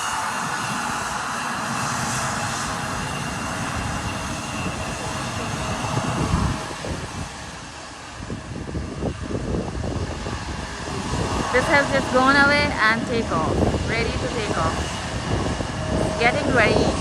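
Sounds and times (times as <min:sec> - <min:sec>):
jet engine roar with whine: 0:00.0 - 0:17.0
wind buffeting microphone: 0:00.0 - 0:17.0.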